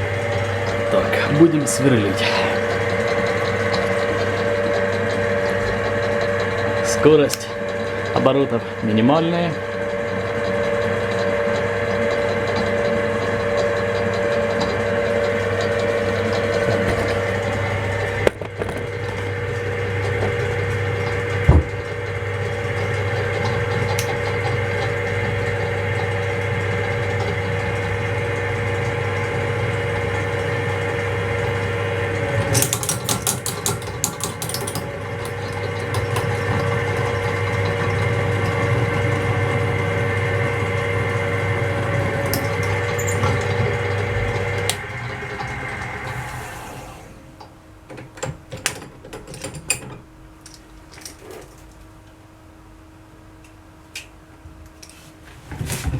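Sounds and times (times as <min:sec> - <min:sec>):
drill press humming and whining: 0:00.0 - 0:51.5.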